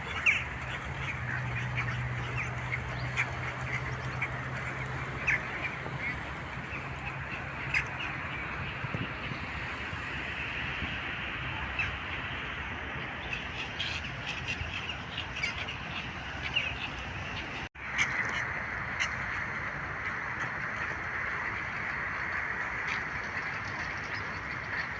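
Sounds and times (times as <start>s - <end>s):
birds chirping and squawking: 0.0s - 9.5s, 13.2s - 24.9s
steady background noise: 0.0s - 24.9s.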